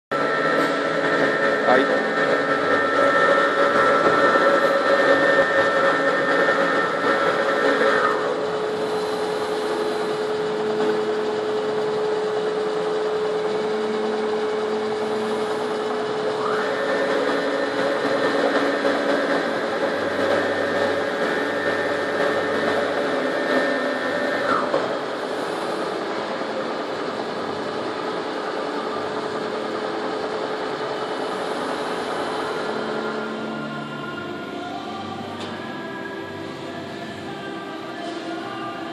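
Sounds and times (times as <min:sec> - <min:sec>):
milling machine hum: 0:00.1 - 0:38.9
motor whine: 0:00.1 - 0:38.9.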